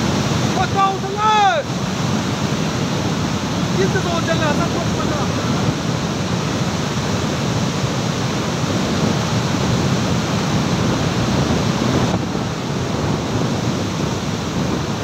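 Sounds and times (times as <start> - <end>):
flood water rushing over boulders: 0.0 - 15.0.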